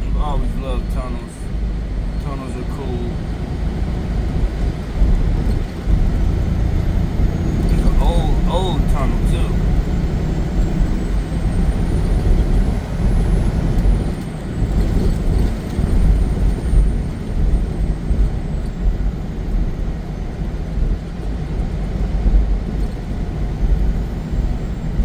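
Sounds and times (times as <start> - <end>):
truck engine rumble: 0.0 - 25.0.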